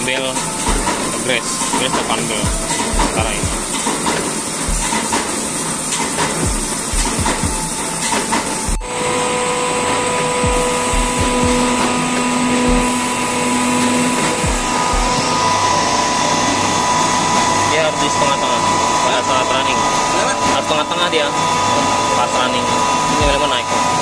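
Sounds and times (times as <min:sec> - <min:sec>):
air compressor running: 0:00.0 - 0:24.0
steady whine with held tones: 0:00.0 - 0:24.0.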